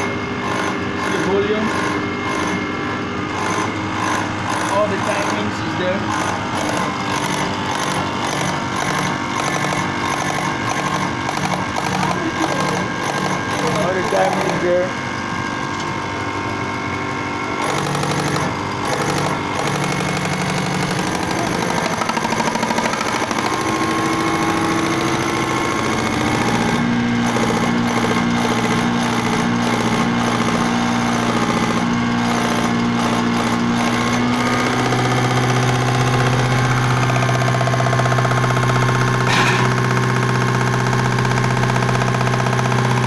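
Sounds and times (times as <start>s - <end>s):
test bench mechanical hum and whir: 0.0s - 43.0s.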